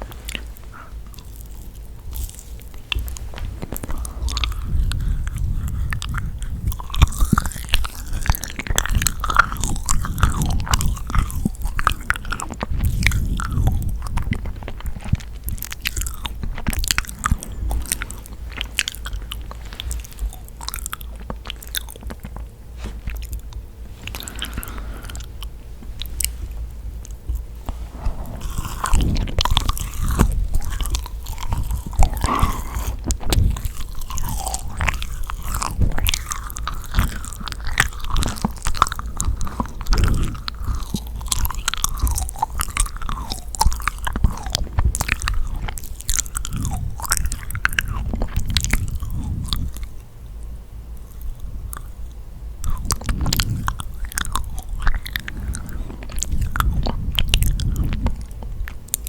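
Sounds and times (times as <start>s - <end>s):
cookie crunch: 0.0s - 49.9s, 51.0s - 59.0s
biting and chewing: 0.0s - 59.0s
sticky mouth clicks: 0.0s - 59.0s.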